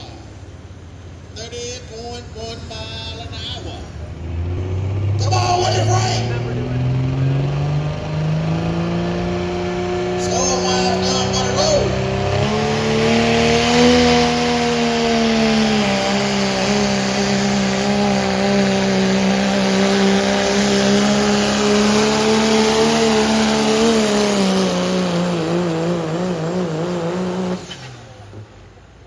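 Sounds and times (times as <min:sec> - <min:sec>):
diesel truck engine at full throttle: 0:00.0 - 0:29.0.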